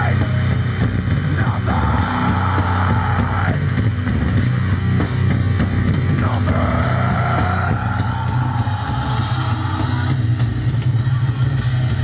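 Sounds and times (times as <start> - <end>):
rock song through small speaker: 0.0 - 12.0.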